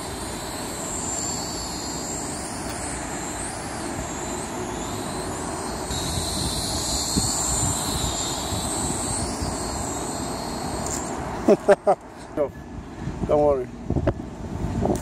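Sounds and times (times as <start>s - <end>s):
drone propellers whining: 0.0s - 12.6s.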